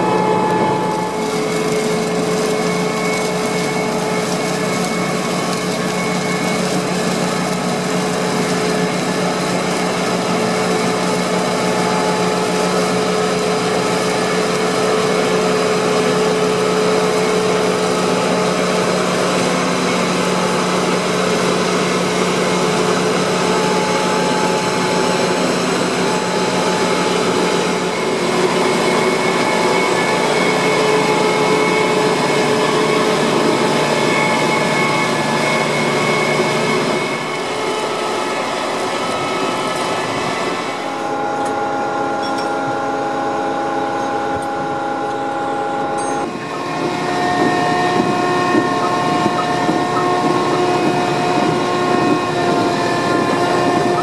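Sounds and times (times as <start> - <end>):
harvester machine drone with whine: 0.0 - 54.0.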